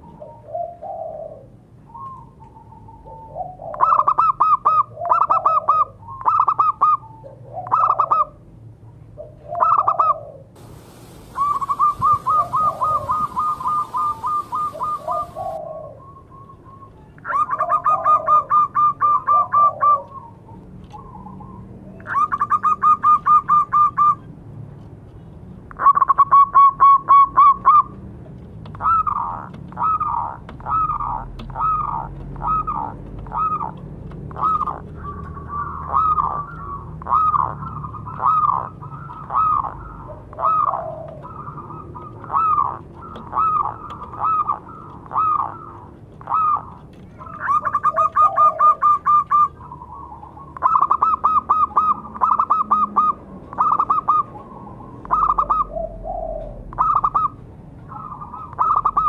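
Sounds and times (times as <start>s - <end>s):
dove cooing: 0.0s - 8.4s, 9.2s - 24.2s, 28.7s - 59.0s.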